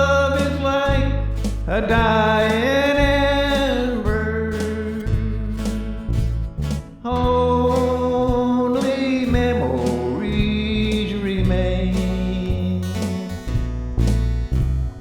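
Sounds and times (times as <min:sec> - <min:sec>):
bass notes: 0:00.0 - 0:15.0
country ballad on guitar: 0:00.0 - 0:15.0.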